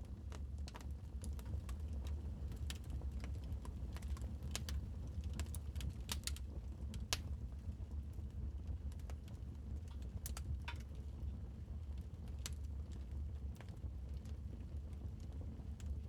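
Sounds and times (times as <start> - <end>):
low rumble of fire: 0.0 - 16.0.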